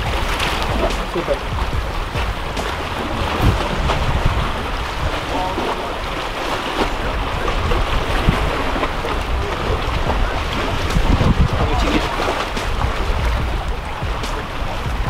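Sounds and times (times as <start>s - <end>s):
sea surf against rocks: 0.0s - 15.0s
wind buffeting microphone: 0.0s - 15.0s.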